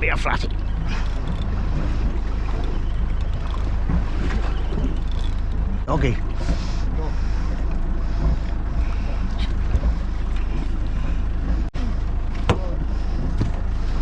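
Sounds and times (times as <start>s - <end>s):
boat engine rumble: 0.0s - 14.0s.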